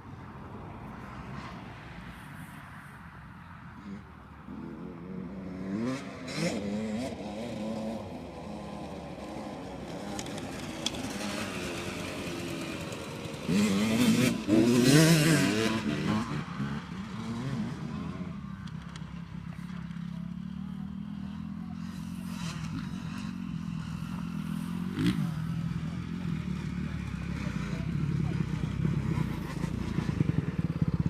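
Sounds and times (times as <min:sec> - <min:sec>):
motocross bike engines revving: 0:03.8 - 0:31.0.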